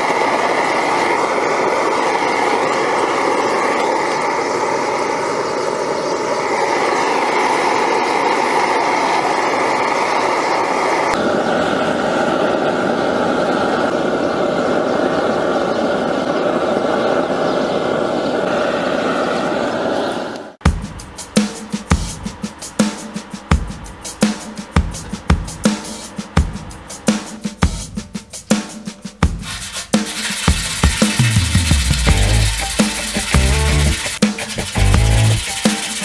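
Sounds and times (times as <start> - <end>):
gas forge burner rushing: 0.0 - 36.0.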